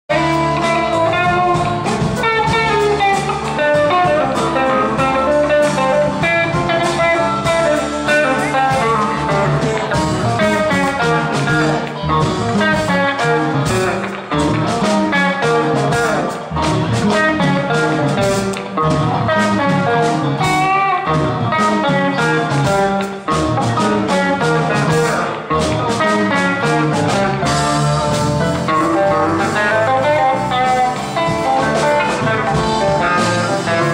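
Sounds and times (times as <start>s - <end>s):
bass guitar: 0.0s - 33.9s
drum kit: 0.1s - 33.9s
electric guitar lead lines: 0.1s - 33.9s.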